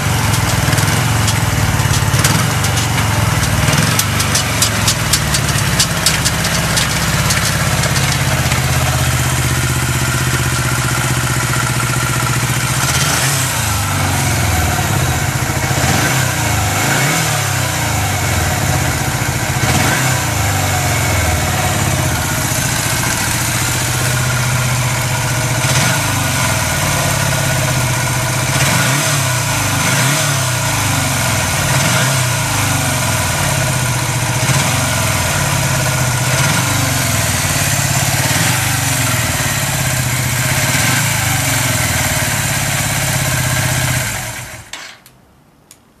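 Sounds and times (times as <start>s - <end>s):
motorcycle engine idling: 0.0s - 44.8s.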